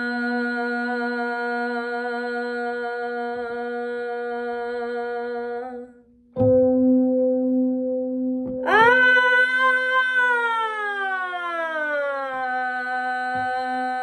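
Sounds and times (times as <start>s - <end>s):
woman singing a long high note: 0.0s - 6.0s, 8.6s - 14.0s.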